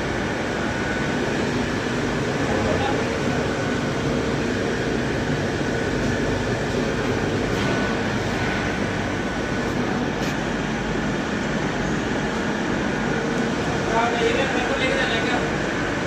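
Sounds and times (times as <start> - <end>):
faint constant whine: 0.0 - 16.0
furnace machine hum: 0.0 - 16.0.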